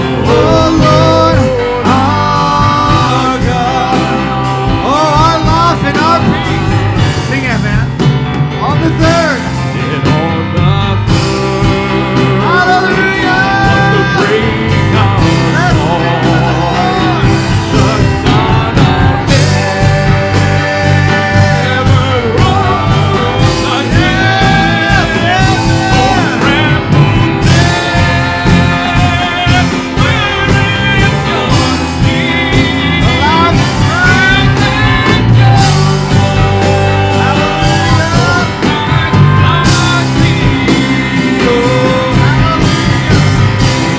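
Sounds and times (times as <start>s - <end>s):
gliding lead melody: 0.0s - 43.9s
live band playing: 0.0s - 43.9s
steady bass: 0.0s - 43.9s.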